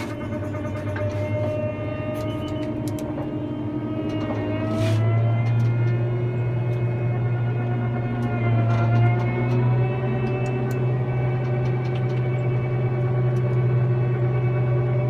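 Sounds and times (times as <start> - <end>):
diesel engine droning: 0.0 - 15.0
high rising tone: 0.0 - 15.0.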